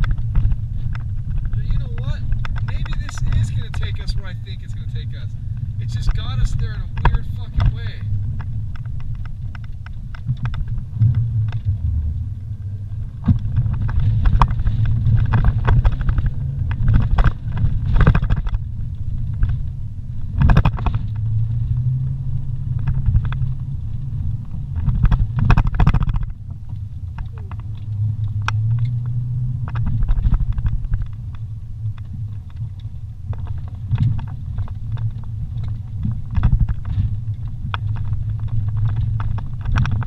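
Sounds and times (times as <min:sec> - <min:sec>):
engine and road rumble: 0:00.0 - 0:40.0
knocks and rattles over bumps: 0:00.0 - 0:40.0.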